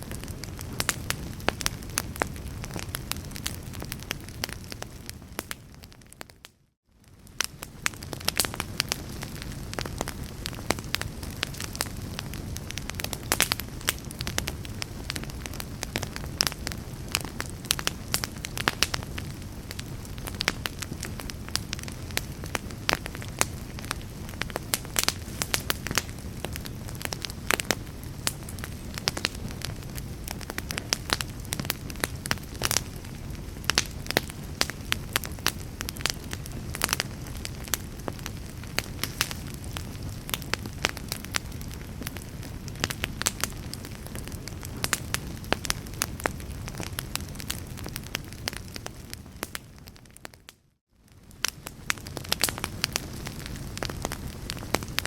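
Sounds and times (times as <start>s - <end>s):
fire crackling in fireplace: 0.0s - 55.0s.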